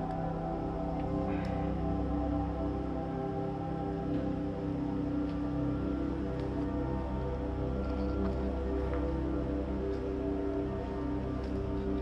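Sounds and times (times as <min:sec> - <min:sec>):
ambient music with held tones: 0:00.0 - 0:12.0.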